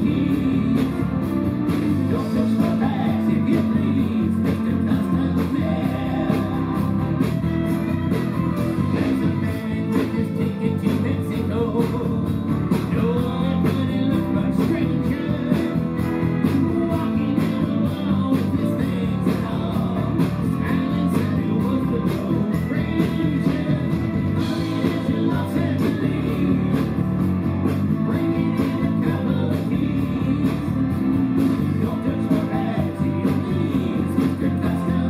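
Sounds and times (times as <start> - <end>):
live band playing rock song: 0.0 - 35.0.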